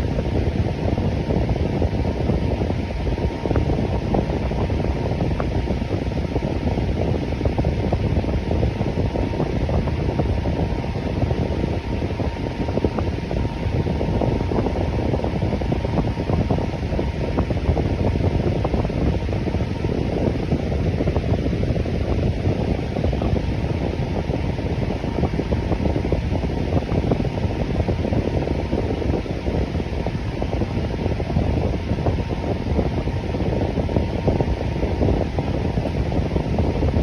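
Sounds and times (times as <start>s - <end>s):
electric fan running: 0.0s - 37.0s.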